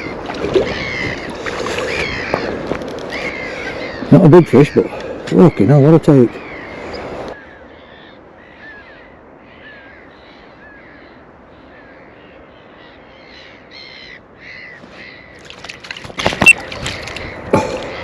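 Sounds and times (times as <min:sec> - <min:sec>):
bird calling: 0:00.0 - 0:18.0.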